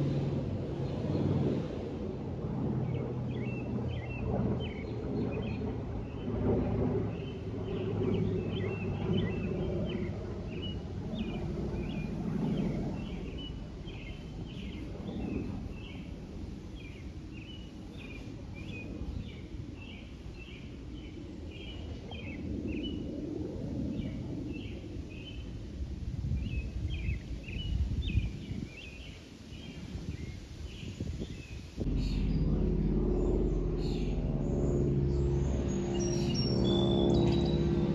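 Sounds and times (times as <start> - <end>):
distant airplane drone: 0.0 - 37.9
small birds chirping: 2.8 - 6.4, 7.1 - 23.1, 23.9 - 25.6, 26.4 - 37.9.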